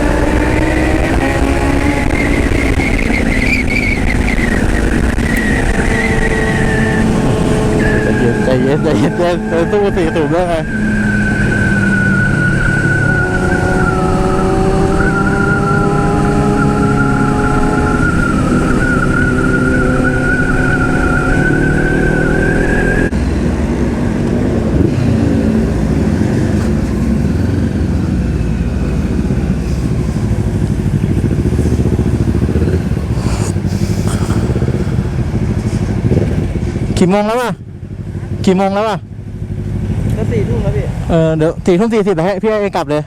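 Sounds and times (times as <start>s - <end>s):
motorcycle engines revving: 0.0s - 43.0s
road and wind noise: 0.0s - 43.0s.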